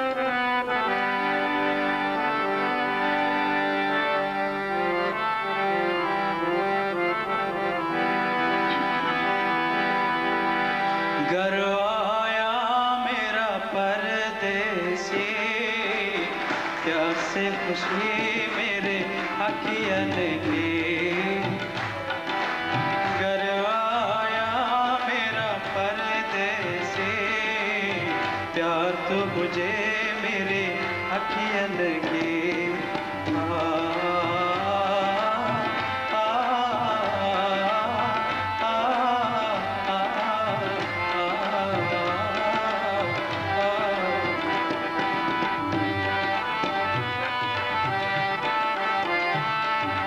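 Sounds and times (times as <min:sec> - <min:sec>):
harmonium melody: 0:00.0 - 0:50.0
tabla rhythm: 0:00.0 - 0:50.0
man singing: 0:07.4 - 0:50.0.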